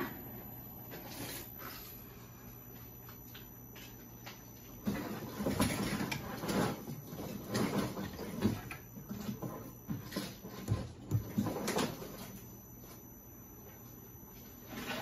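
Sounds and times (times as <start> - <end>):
faint motor hum: 0.0 - 15.0.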